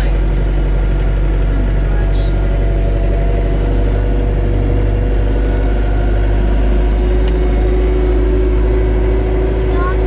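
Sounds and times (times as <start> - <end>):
vehicle engine rumbling: 0.5 - 10.0.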